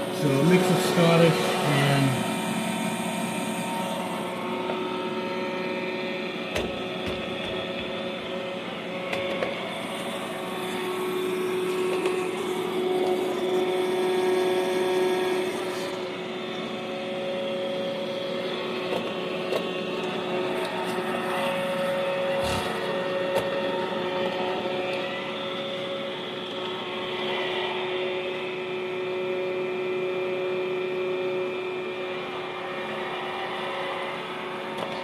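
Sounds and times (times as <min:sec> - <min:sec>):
robot vacuum motor hum: 0:00.0 - 0:35.0.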